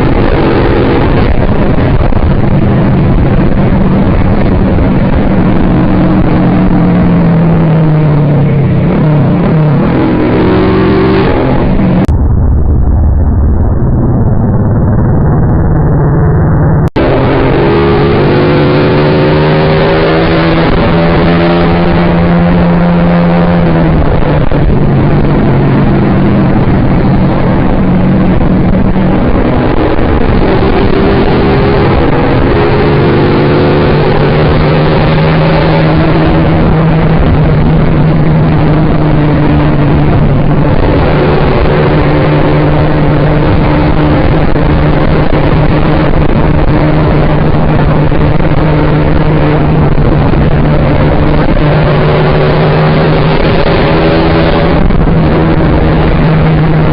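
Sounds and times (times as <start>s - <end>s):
motorcycle engine revving: 0.0s - 56.9s
rushing noise: 0.0s - 56.9s.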